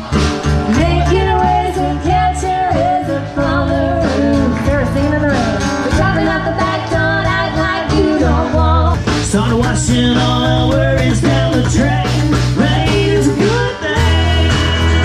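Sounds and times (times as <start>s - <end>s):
bass: 0.0s - 15.0s
guitar: 0.0s - 15.0s
person singing: 0.6s - 15.0s.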